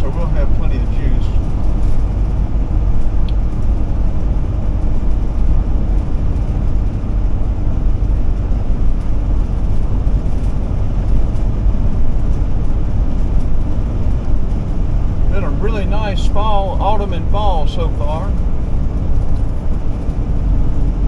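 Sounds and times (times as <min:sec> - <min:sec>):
motorhome engine drone: 0:00.0 - 0:21.0.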